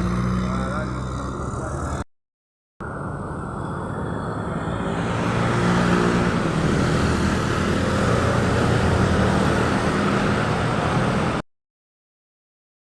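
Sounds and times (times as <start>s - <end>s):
road noise: 0.0s - 2.0s, 2.8s - 11.4s.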